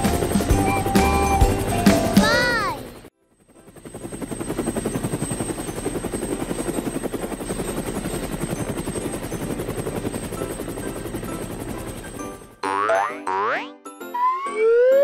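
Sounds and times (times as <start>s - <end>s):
helicopter rotor chopping: 0.0s - 12.9s.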